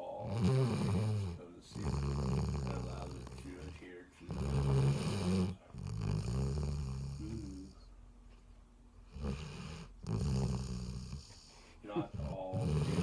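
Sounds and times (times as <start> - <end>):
dog snoring: 0.0 - 7.9, 9.0 - 13.0.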